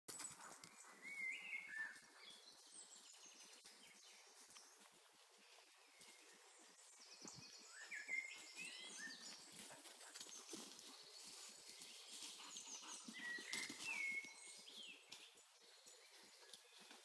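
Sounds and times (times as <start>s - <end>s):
faint birdsong chirps and whistles: 0.2s - 17.0s.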